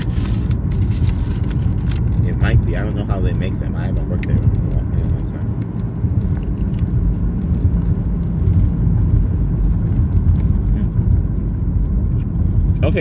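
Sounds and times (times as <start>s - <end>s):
car road noise: 0.0s - 13.0s.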